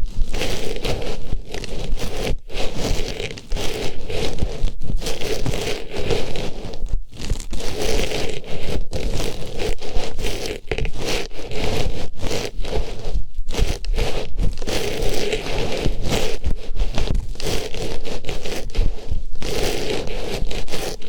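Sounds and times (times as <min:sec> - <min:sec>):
artificial flower rustling on microphone: 0:00.0 - 0:21.0.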